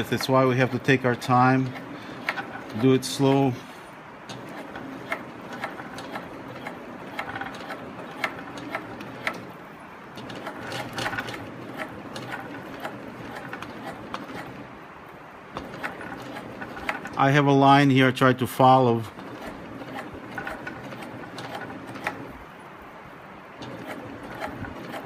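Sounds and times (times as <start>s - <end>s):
sewing machine stitching: 0.0s - 14.8s, 15.5s - 17.5s, 19.0s - 22.6s, 23.5s - 25.0s.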